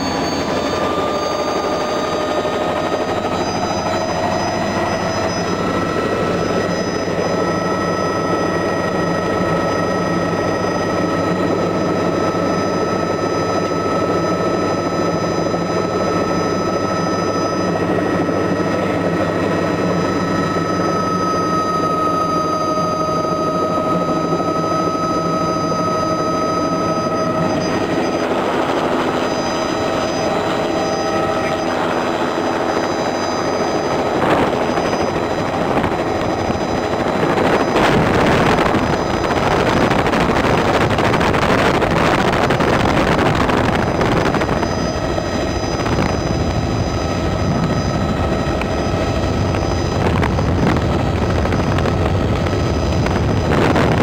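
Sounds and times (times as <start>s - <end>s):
helicopter rotor rushing: 0.0s - 54.0s.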